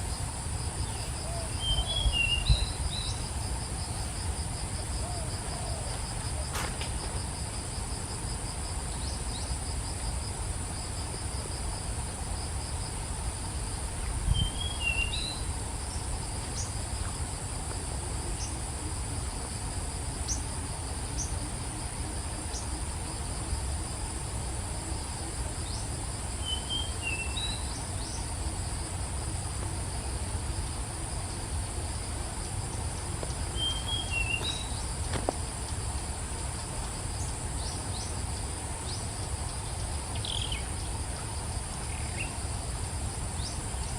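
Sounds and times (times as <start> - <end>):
insects chorus: 0.0 - 43.9
pulsing insect trill: 0.0 - 43.9.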